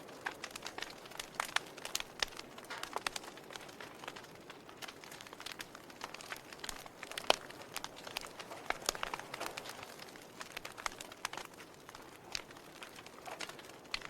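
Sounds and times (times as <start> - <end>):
log fire crackling: 0.0 - 14.0
soft steady fire hiss: 0.0 - 14.0.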